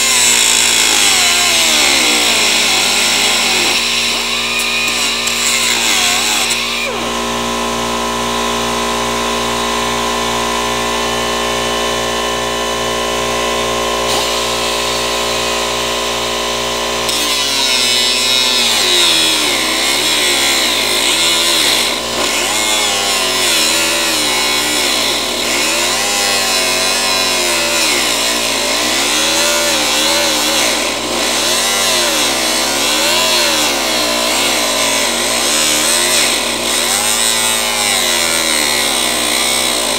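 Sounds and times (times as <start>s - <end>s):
handheld power tool running: 0.0s - 39.9s.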